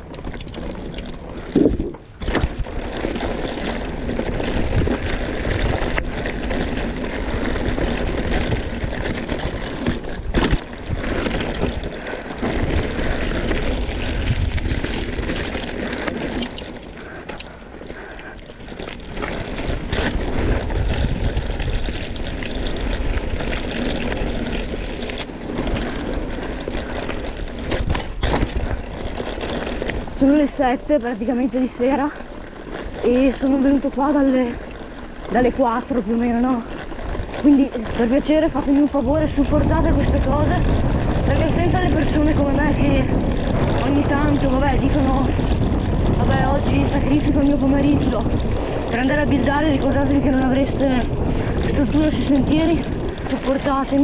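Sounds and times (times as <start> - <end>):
bike knocking and rattling: 0.0 - 54.0
tyres over loose dirt and stones: 0.0 - 54.0
wind rumble on microphone: 0.0 - 54.0.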